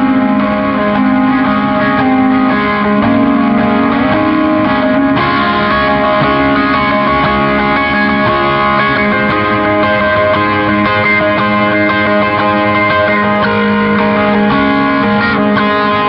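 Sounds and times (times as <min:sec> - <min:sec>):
ambient guitar music: 0:00.0 - 0:16.0.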